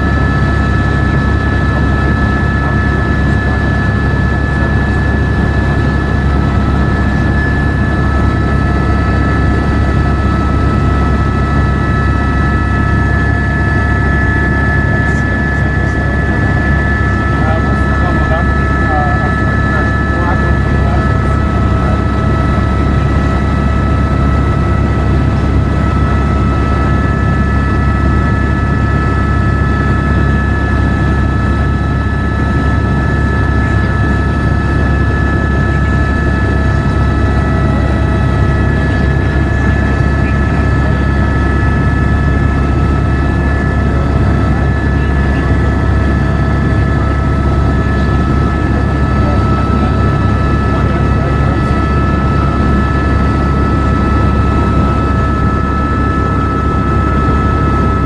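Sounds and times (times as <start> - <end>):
helicopter rotor and engine drone: 0.0 - 58.0
steady high whine: 0.0 - 58.0.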